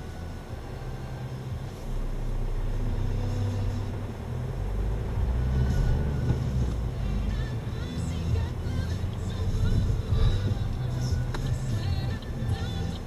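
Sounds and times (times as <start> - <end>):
car engine pulling away: 0.0 - 13.0.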